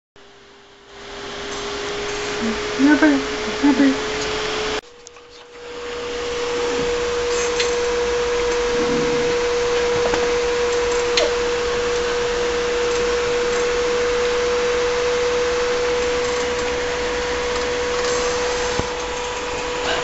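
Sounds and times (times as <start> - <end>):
machine hissing and humming: 0.2 - 20.0.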